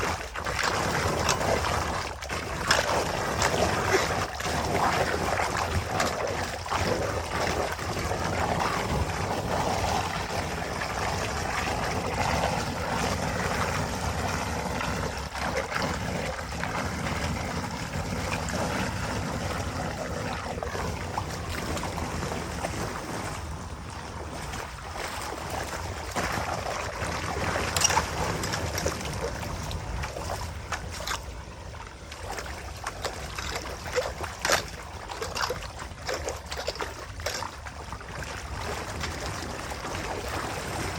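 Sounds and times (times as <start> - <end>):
water trickling through a drain: 0.0 - 40.9.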